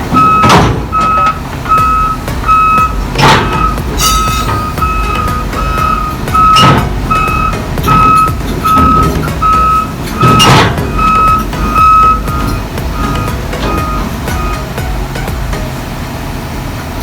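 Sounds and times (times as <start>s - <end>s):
backup alarm beeping: 0.0s - 14.8s
diesel engine rumble: 0.0s - 17.0s.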